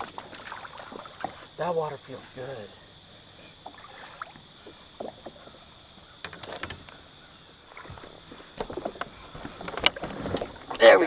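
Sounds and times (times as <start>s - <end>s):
kayak splashes and knocks: 0.0s - 2.5s, 3.5s - 11.0s
insects droning: 0.0s - 11.0s.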